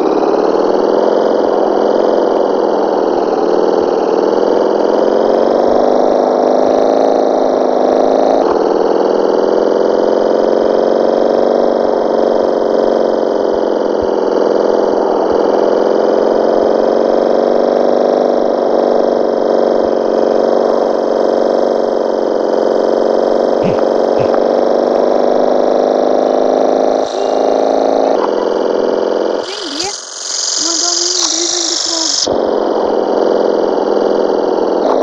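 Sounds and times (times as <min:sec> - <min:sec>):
motorcycle engine droning: 0:00.0 - 0:35.0.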